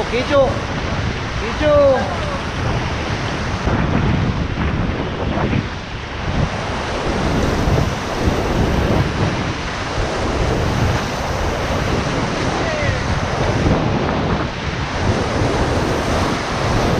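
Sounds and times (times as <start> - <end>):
whitewater rapids roaring: 0.0 - 16.9
wind buffeting microphone: 0.0 - 16.9.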